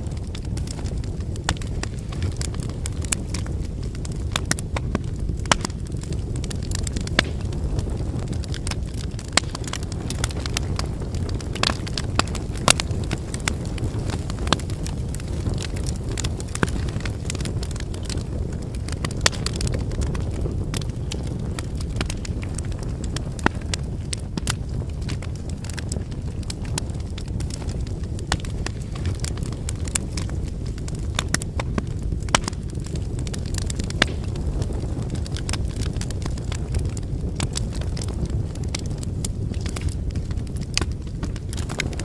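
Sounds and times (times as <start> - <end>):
burning logs crackling and popping: 0.0 - 42.0
campfire flames rumbling: 0.0 - 42.0.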